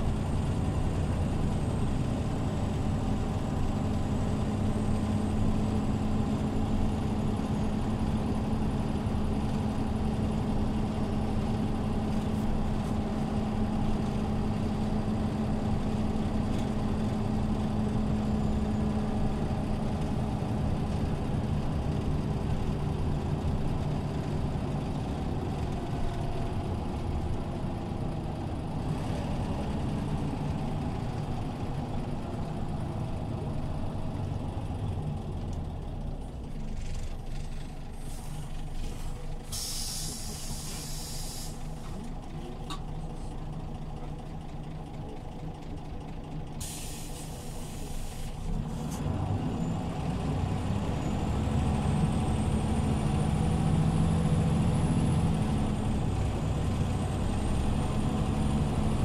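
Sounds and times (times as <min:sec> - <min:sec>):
bus engine droning: 0:00.0 - 0:59.0.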